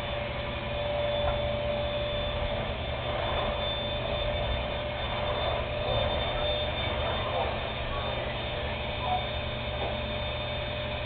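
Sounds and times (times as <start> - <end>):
vacuum cleaner motor running: 0.0 - 11.0.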